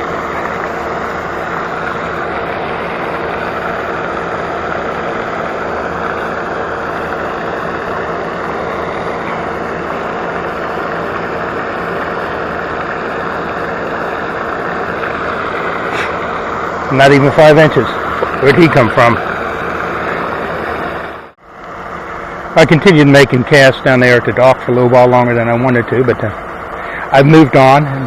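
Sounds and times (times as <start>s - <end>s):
fountain spraying water: 0.0s - 28.0s
low even hum: 0.0s - 28.0s.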